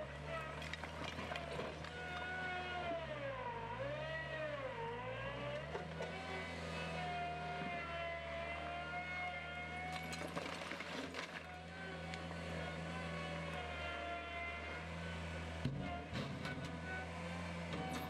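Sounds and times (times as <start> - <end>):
loader engine hum with whine: 0.0 - 18.0.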